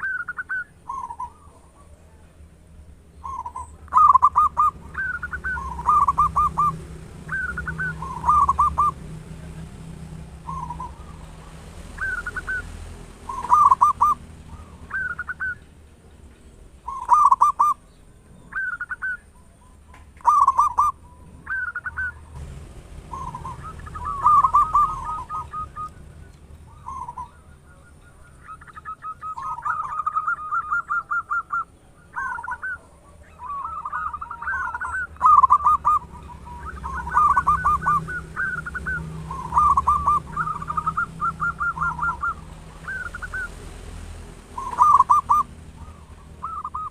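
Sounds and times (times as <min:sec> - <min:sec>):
dove cooing: 0:00.0 - 0:15.7, 0:16.8 - 0:17.9, 0:18.5 - 0:43.6, 0:44.5 - 0:46.9
rolling bird trills: 0:00.0 - 0:46.9.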